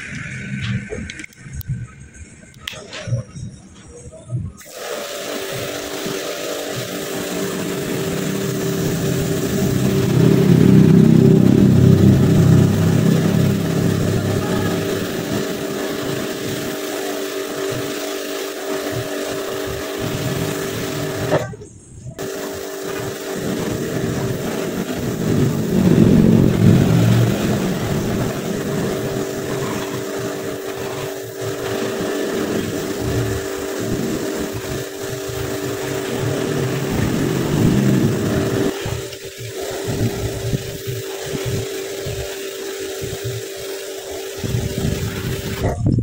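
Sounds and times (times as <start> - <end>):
motor humming: 4.6 - 45.9
car wash machine running: 4.6 - 46.0.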